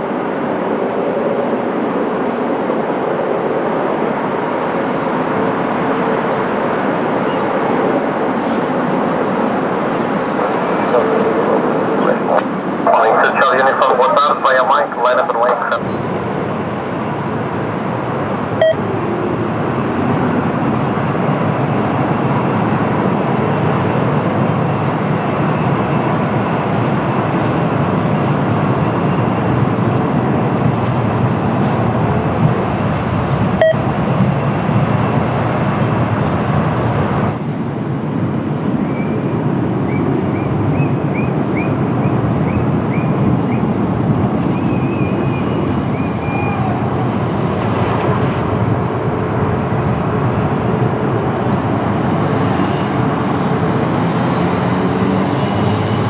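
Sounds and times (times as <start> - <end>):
distant aircraft engines: 0.0 - 56.0
wind: 0.0 - 56.0.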